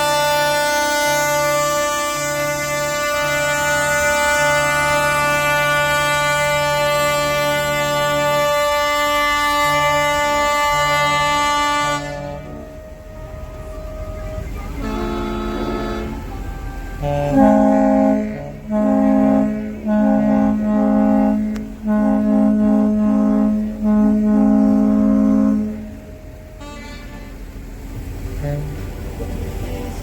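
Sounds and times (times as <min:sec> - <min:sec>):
horn-like tune of held notes: 0:00.0 - 0:29.8
steady low rumble: 0:00.0 - 0:30.0.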